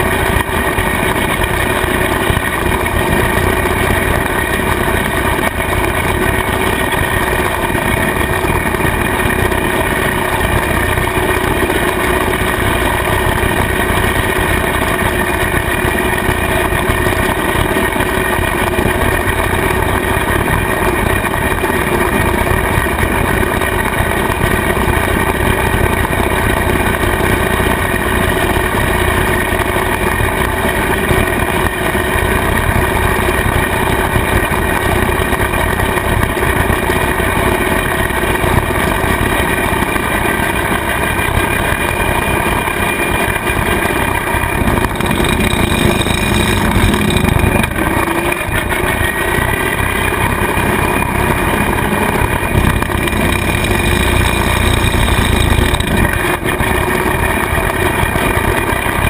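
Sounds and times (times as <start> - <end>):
rotary cutter mowing grass: 0.0 - 59.0
tractor diesel engine running: 0.0 - 59.0.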